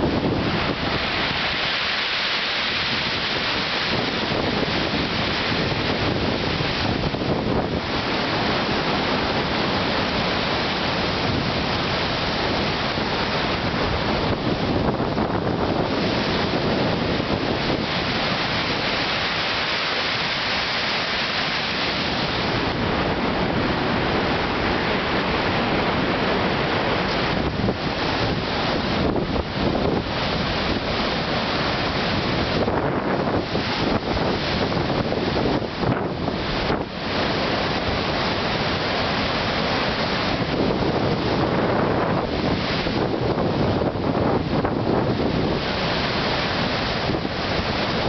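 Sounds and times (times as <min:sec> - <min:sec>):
surf pounding the shore: 0:00.0 - 0:48.0
wind buffeting microphone: 0:00.0 - 0:48.0.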